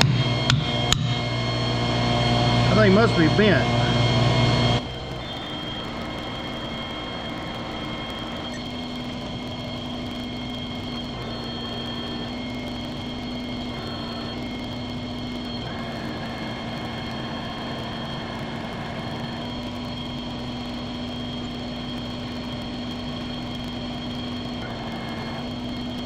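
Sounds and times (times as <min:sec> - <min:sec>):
lathe humming with high whine: 0:00.0 - 0:26.0.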